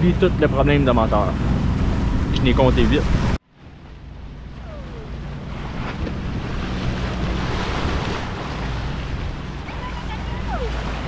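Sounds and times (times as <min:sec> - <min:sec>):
low boat engine drone: 0:00.0 - 0:11.0
water rushing along boat hull: 0:00.0 - 0:11.0
wind buffeting microphone: 0:00.0 - 0:11.0.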